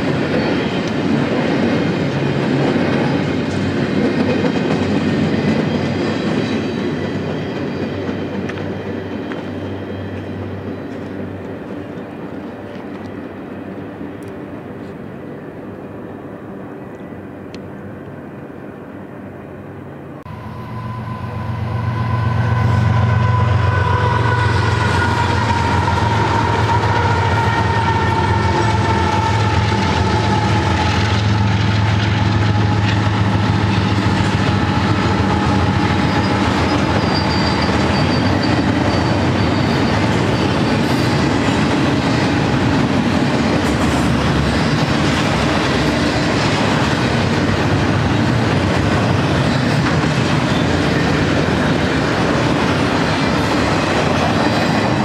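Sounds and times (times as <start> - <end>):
deep diesel locomotive rumble: 0.0 - 55.0
train wheels rolling on rails: 0.0 - 55.0.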